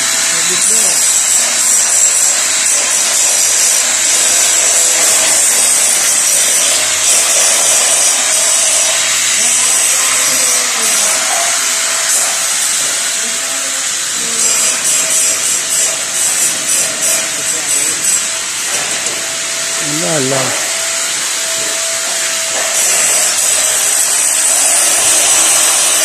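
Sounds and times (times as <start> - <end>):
angle grinder grinding metal: 0.0 - 26.0.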